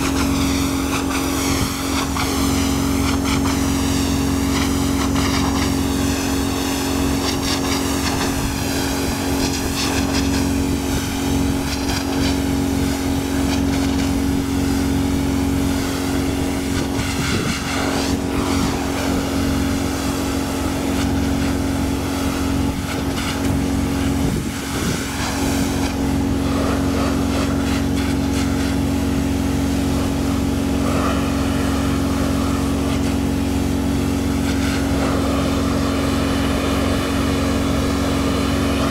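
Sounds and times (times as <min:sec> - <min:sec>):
pressure washer motor humming: 0:00.0 - 0:38.9
water spray hissing: 0:00.0 - 0:38.9.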